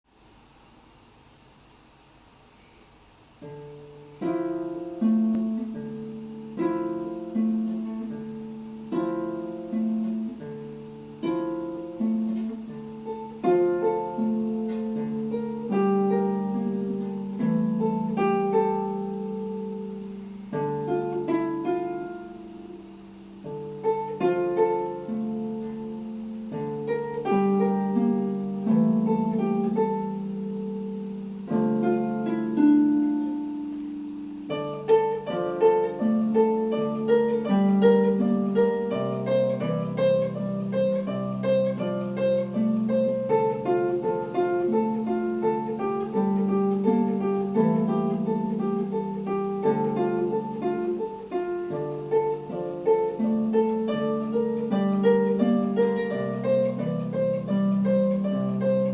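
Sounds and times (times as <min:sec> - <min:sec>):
harp playing: 0:03.4 - 0:58.9.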